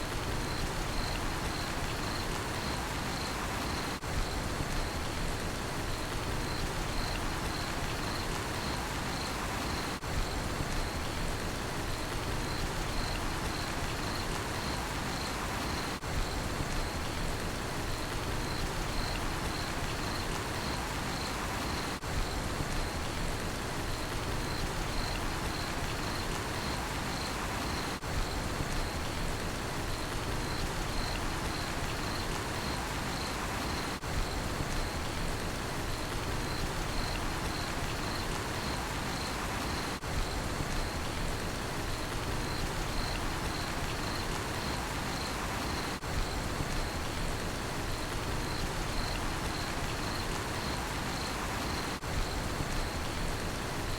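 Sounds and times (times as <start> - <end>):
steady rain falling: 0.0 - 53.9
cricket chirping: 0.3 - 5.1, 5.9 - 11.2, 11.9 - 17.2, 17.9 - 23.2, 24.0 - 29.2, 29.9 - 53.9.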